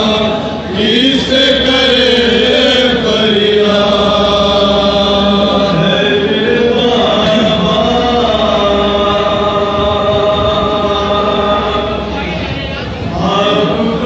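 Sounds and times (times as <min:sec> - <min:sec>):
man chanting through loudspeaker: 0:00.0 - 0:14.0.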